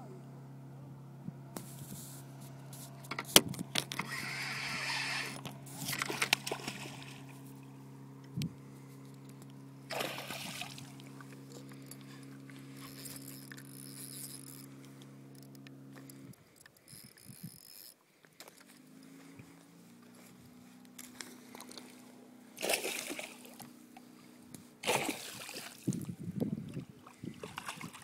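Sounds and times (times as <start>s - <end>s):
boat engine idling: 0.0s - 27.5s.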